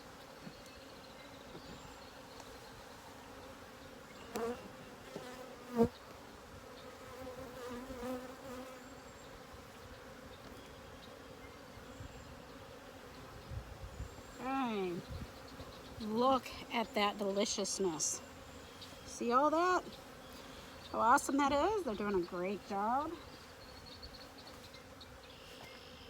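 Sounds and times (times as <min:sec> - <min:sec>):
bee buzzing close by: 0:00.0 - 0:26.0
honeybees buzzing: 0:00.0 - 0:26.0.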